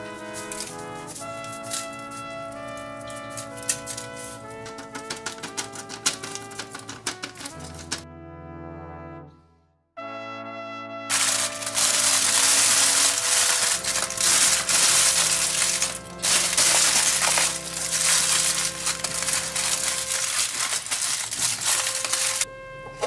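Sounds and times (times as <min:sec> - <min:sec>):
aluminium foil crinkling: 0:00.0 - 0:08.0, 0:11.1 - 0:22.5
background music: 0:00.0 - 0:23.0.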